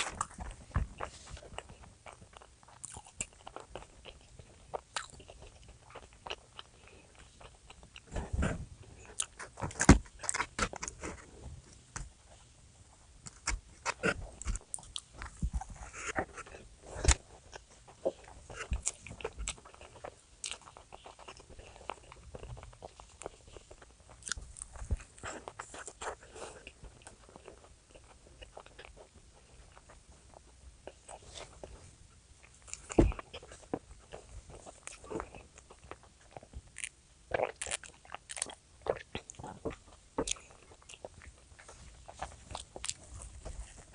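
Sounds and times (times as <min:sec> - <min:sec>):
crunchy chewing: 0:00.0 - 0:11.4, 0:13.2 - 0:31.8, 0:32.4 - 0:43.9.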